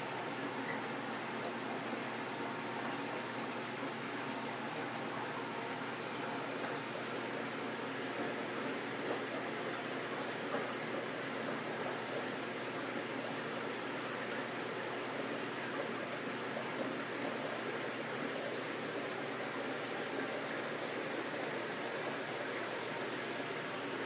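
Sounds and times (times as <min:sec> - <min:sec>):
aquarium water rushing and trickling: 0:00.0 - 0:24.0.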